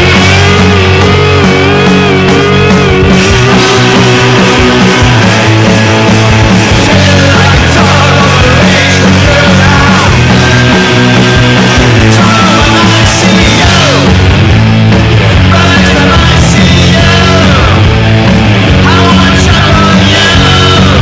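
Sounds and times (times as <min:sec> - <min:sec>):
punk rock song with guitars drums: 0:00.0 - 0:21.0.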